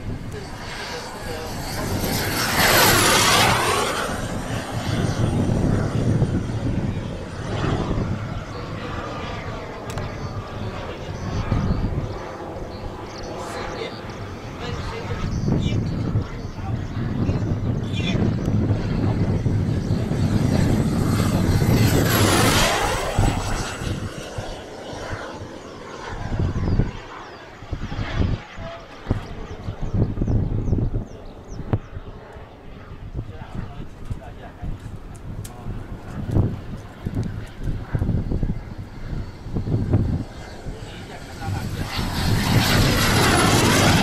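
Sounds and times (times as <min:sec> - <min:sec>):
model jet turbine whining: 0:00.0 - 0:44.0.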